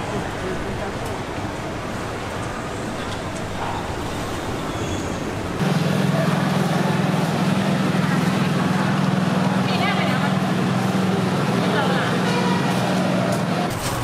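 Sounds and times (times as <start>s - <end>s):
loud low motor hum: 0.0s - 14.0s
market noise: 0.0s - 14.0s.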